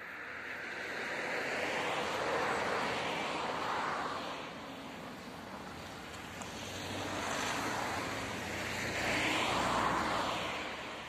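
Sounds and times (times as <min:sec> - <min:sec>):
car approaching slowly: 0:00.0 - 0:11.0.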